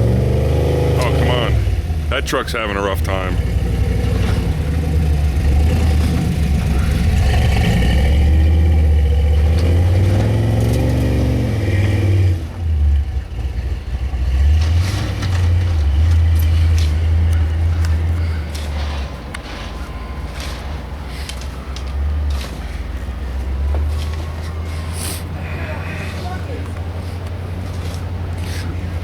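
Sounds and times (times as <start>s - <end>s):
truck engine labouring: 0.0s - 29.0s.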